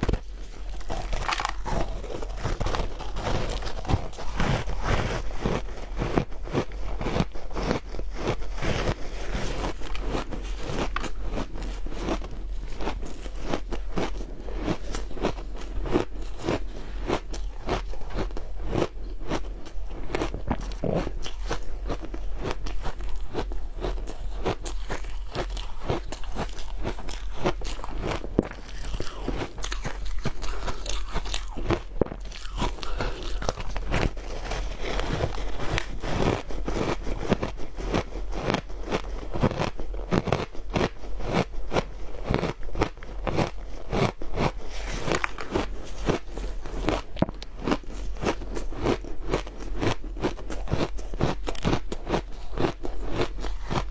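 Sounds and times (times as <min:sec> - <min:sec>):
ice crunching while chewed: 0:00.0 - 0:53.9.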